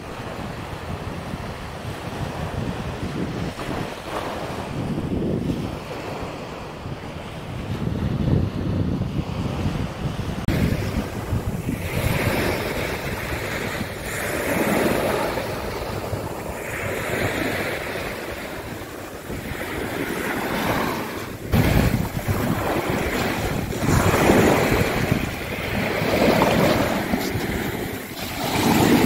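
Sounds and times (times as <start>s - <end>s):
surf washing on a beach: 0.0s - 29.0s
wind buffeting microphone: 0.0s - 29.0s.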